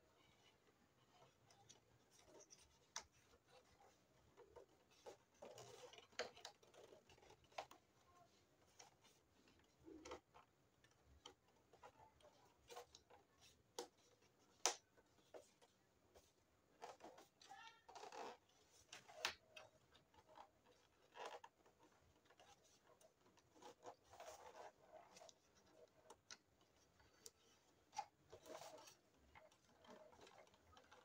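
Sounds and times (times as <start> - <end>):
scratchy rustle: 0.0 - 31.0.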